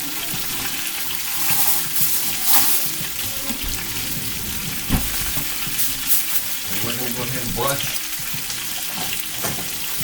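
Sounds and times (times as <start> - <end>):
chicken frying in hot oil: 0.0 - 10.0.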